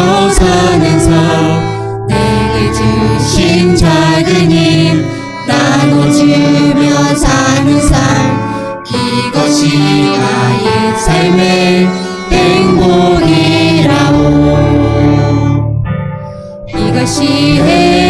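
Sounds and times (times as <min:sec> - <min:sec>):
gospel song with singing: 0:00.0 - 0:15.8, 0:16.7 - 0:18.0.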